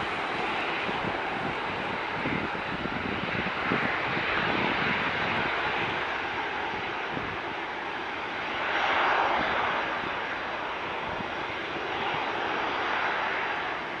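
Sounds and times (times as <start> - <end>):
jet engines roaring at takeoff: 0.0 - 14.0.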